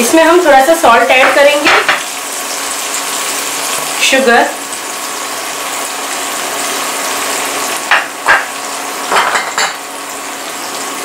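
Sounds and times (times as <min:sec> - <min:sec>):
beans sizzling in hot oil: 0:00.0 - 0:11.0.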